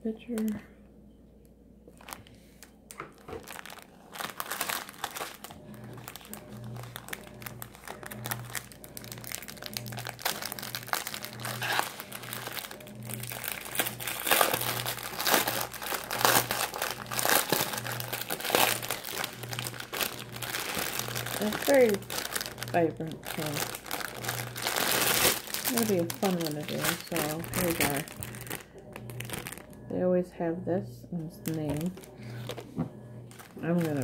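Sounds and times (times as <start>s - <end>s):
plastic packaging crinkling: 0.2s - 0.7s, 1.9s - 29.9s, 31.4s - 34.0s.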